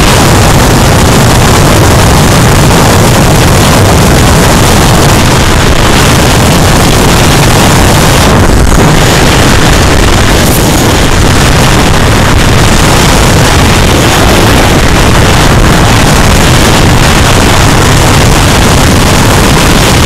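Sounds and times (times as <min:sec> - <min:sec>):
motorcycle engine: 0:00.0 - 0:20.0
road noise: 0:00.0 - 0:20.0
wind buffeting microphone: 0:00.0 - 0:20.0.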